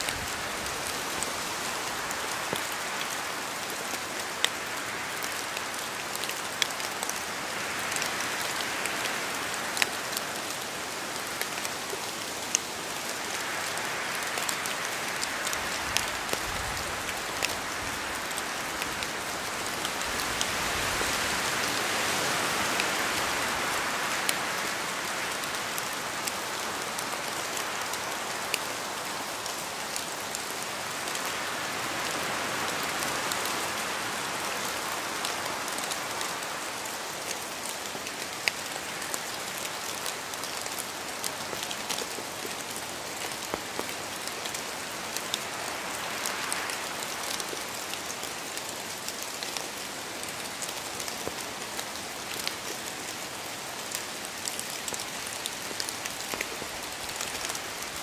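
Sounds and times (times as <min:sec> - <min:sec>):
rain pattering on surface: 0:00.0 - 0:58.0.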